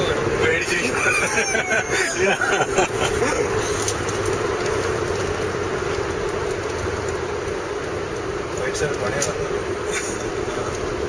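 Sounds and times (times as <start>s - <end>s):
car cabin road and engine noise: 0.0s - 11.0s
continuous low hum: 0.0s - 11.0s.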